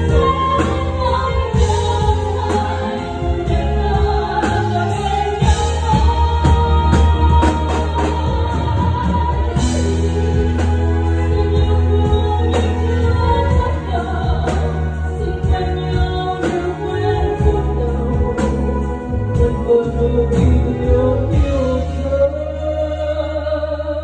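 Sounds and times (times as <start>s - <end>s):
band with heavy bass: 0.0s - 24.0s.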